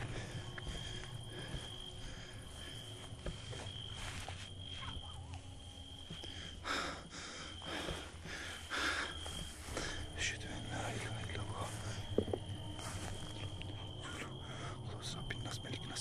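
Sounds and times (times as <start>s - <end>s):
footsteps: 0.0s - 14.3s
low outdoor rumble: 0.0s - 16.0s.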